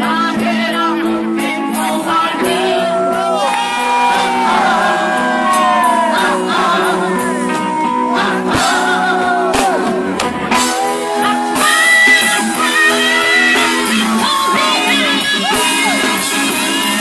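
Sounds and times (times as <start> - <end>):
electric guitar: 0.0 - 17.0
people singing: 0.0 - 17.0
drum kit: 1.4 - 17.0.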